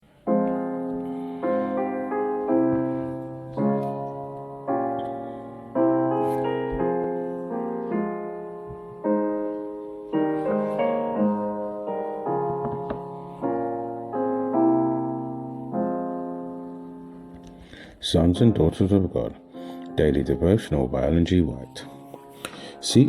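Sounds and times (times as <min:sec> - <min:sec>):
solo piano chords: 0:00.0 - 0:23.0.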